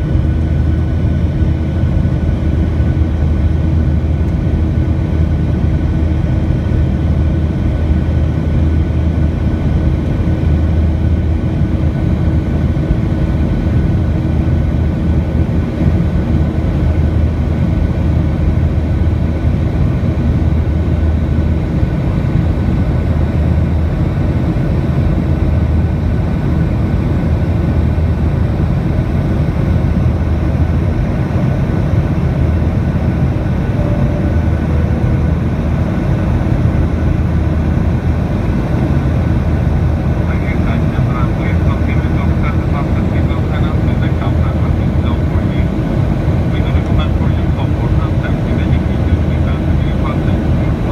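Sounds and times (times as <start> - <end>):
jet engine cabin drone: 0.0 - 50.9.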